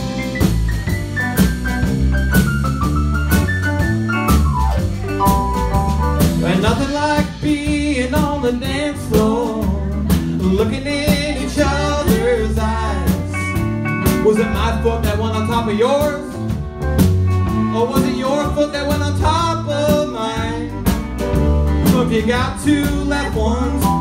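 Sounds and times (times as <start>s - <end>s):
drum kit: 0.0s - 24.0s
electric bass guitar: 0.0s - 24.0s
electric keyboard: 0.0s - 24.0s.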